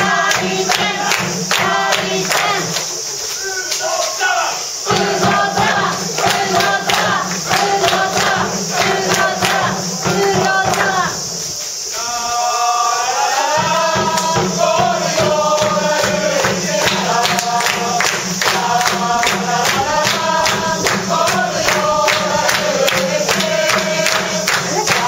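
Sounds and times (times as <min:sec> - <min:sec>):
drum beating: 0:00.0 - 0:03.0, 0:04.8 - 0:11.5, 0:13.5 - 0:25.0
crowd chanting in unison: 0:00.0 - 0:25.0.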